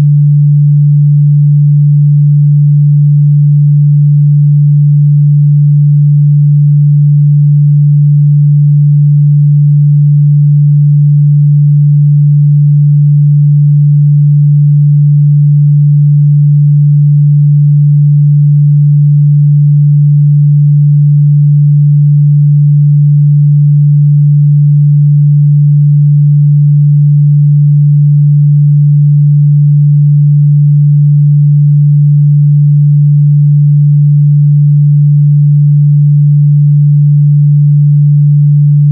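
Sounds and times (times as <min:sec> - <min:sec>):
low sine-wave test tone: 0:00.0 - 0:38.9.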